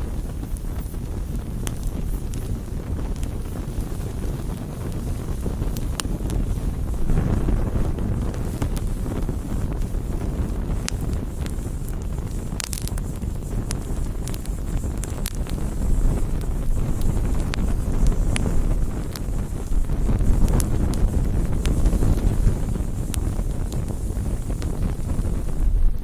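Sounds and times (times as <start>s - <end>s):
burning wood crackling: 0.0s - 26.0s
rumble of flames: 0.0s - 26.0s.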